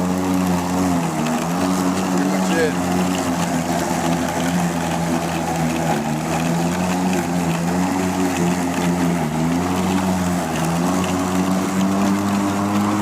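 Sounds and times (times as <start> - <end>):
electric lawn mower humming: 0.0 - 13.0.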